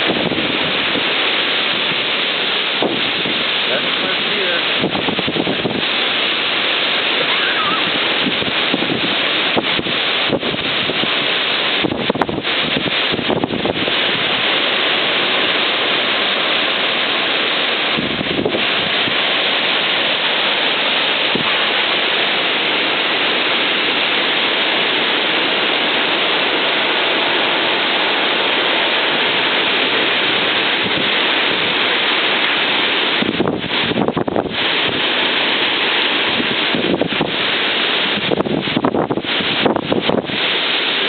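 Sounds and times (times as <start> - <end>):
storm wind gusting: 0.0 - 41.0.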